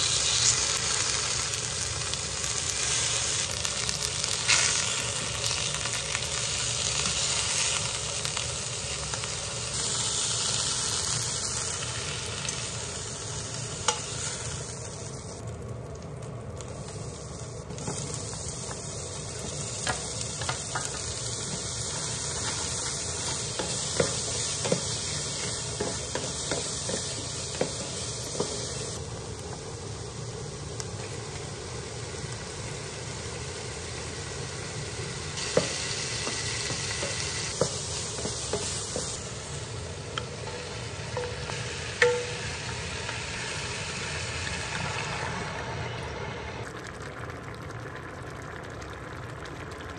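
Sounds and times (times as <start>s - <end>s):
food sizzling in frying pan: 0.0s - 49.8s.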